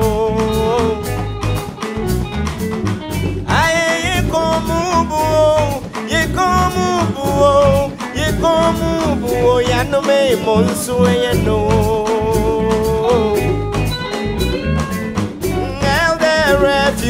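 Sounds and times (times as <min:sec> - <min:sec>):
person singing: 0:00.0 - 0:02.1, 0:03.5 - 0:17.0
afrobeat band playing: 0:00.0 - 0:17.0.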